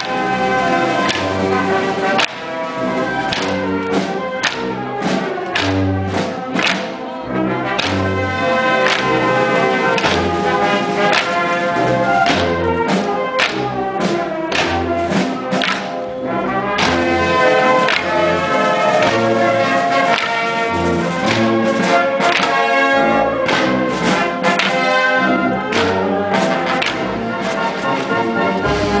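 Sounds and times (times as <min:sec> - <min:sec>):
brass notes and chords: 0:00.0 - 0:29.0
drum strokes: 0:00.0 - 0:29.0.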